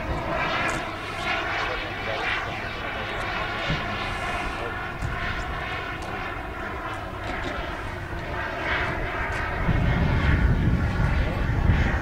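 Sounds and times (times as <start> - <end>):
jet turbine whine: 0.0 - 12.0
low rumble: 0.0 - 12.0.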